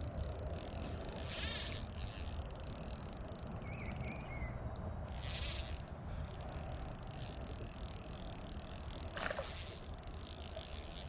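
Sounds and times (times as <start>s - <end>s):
high-pitched insect buzzing: 0.0s - 4.2s, 5.1s - 11.0s
constant low rumble: 0.0s - 11.0s.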